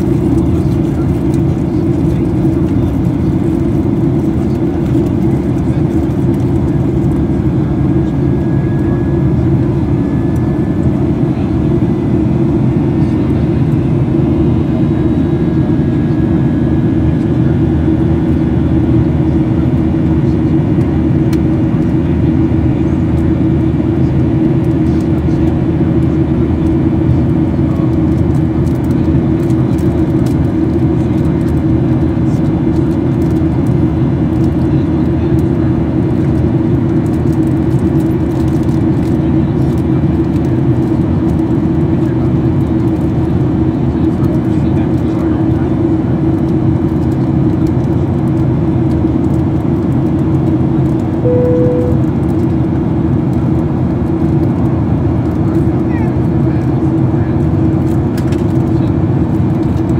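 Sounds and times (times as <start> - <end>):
jet engines droning: 0.0 - 39.1, 45.7 - 55.5.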